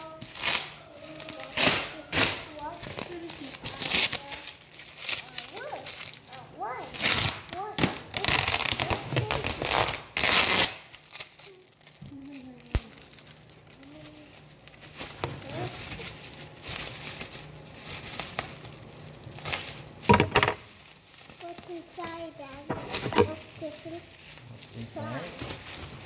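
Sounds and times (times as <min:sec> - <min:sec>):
plastic wrapping crinkling: 0:00.0 - 0:26.0.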